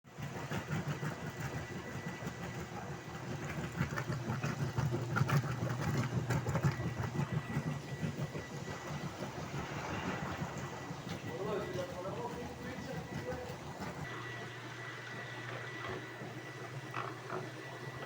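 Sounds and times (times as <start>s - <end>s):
machine motor humming: 0.2s - 18.0s.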